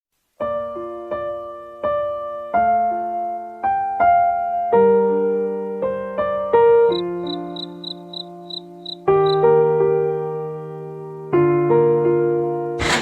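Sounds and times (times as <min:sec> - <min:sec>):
gentle piano-like keyboard melody: 0:00.4 - 0:12.8.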